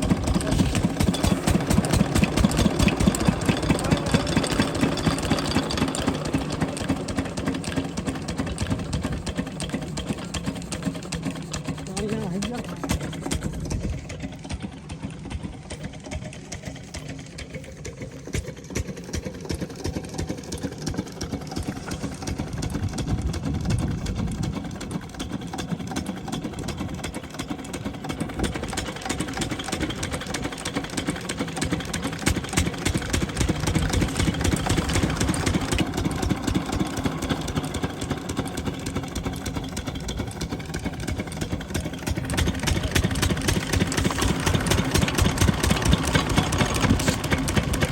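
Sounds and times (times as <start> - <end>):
diesel pump engine running: 0.0 - 47.9.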